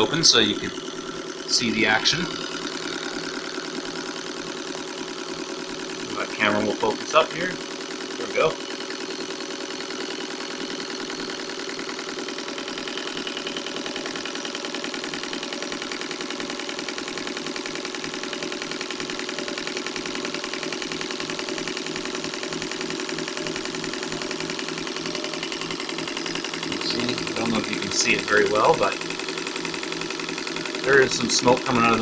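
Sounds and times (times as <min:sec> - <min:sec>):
sewing machine running: 0:00.0 - 0:32.0.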